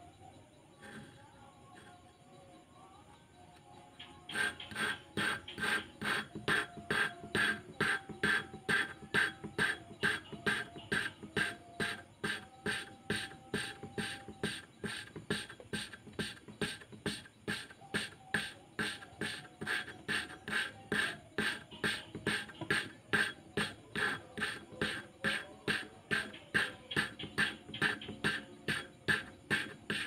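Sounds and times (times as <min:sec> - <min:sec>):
gritty rasp of valve lapping: 0:04.3 - 0:30.0.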